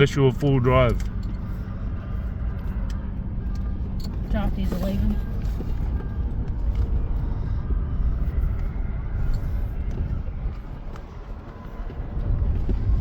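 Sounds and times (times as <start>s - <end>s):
vehicle rumbling on dirt track: 0.0s - 13.0s.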